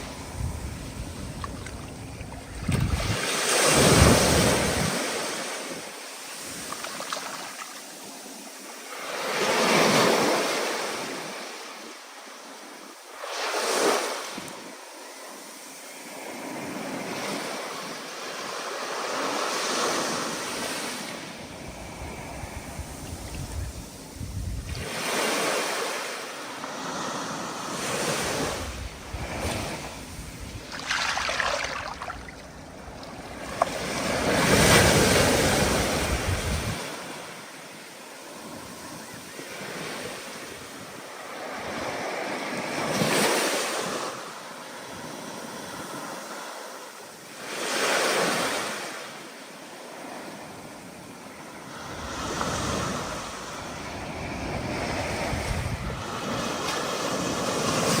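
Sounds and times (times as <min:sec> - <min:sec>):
stormy ocean waves breaking: 0:00.0 - 0:14.8, 0:16.0 - 0:58.0.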